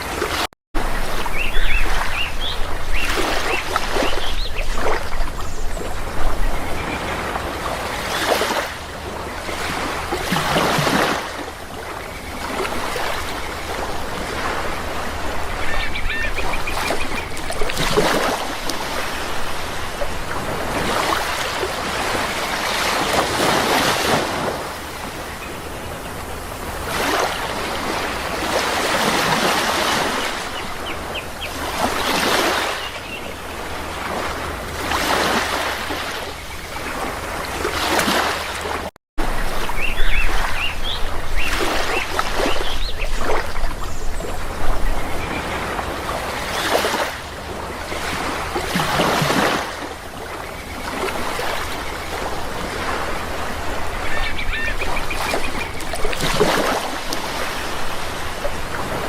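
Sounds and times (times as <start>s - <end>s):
sea waves washing ashore: 0.0s - 59.0s
birds calling: 1.0s - 38.6s, 39.2s - 59.0s.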